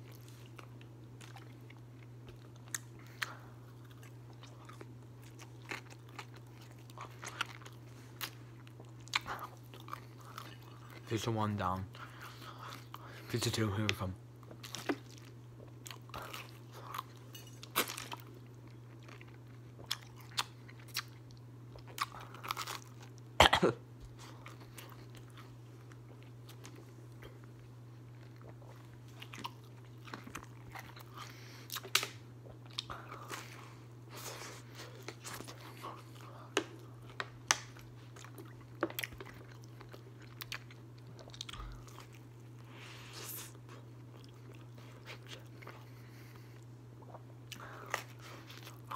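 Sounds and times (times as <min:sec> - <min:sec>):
chewing crunchy pizza crust: 0:00.0 - 0:48.9
steady low hum: 0:00.0 - 0:48.9.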